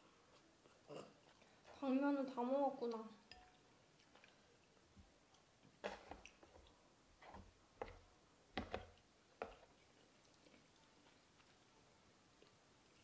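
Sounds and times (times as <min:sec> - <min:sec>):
chewing: 0:00.2 - 0:01.8, 0:02.8 - 0:08.0, 0:08.9 - 0:13.0.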